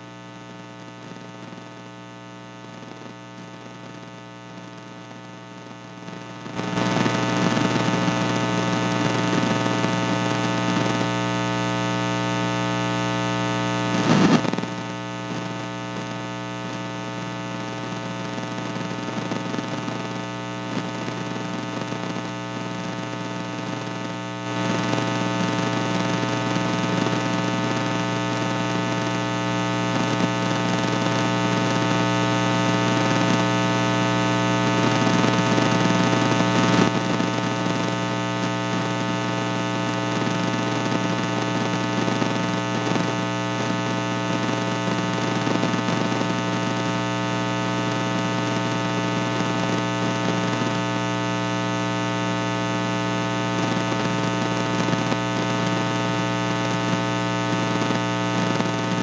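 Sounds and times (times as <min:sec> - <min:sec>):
static hiss: 0:00.0 - 0:59.0.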